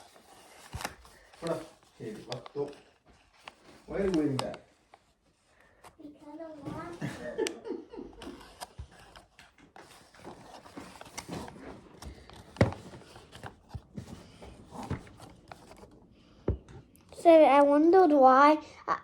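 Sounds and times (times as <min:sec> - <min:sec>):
faint rustling: 0:00.0 - 0:17.6.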